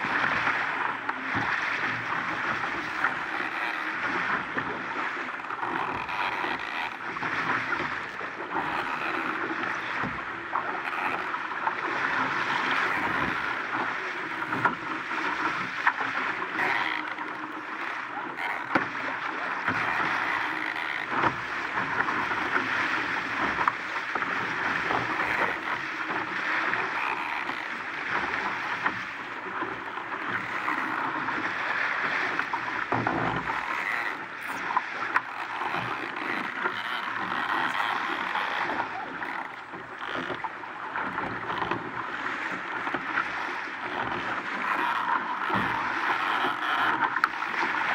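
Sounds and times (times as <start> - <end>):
water rushing along boat hull: 0.0 - 47.9.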